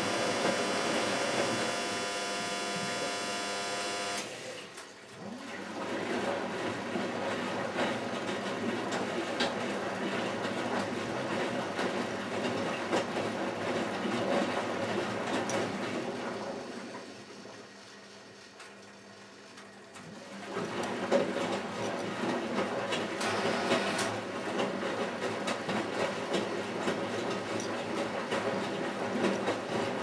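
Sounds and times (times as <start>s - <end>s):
washing machine motor whine: 0.0s - 30.0s.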